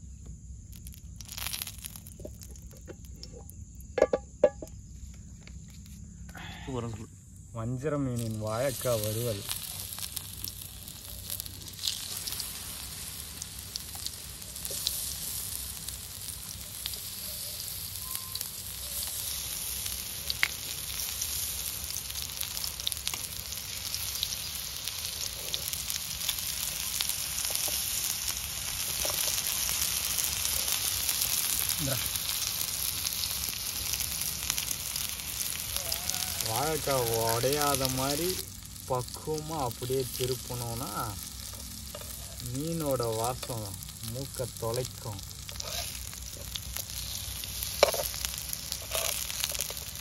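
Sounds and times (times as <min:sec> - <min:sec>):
slices sizzling in oil: 0:00.6 - 0:04.0, 0:07.8 - 0:50.0.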